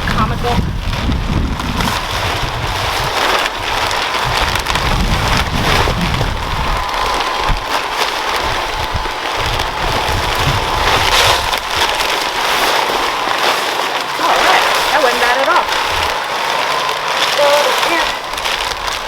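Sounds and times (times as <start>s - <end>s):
soil pouring from wheelbarrow: 0.0s - 19.0s.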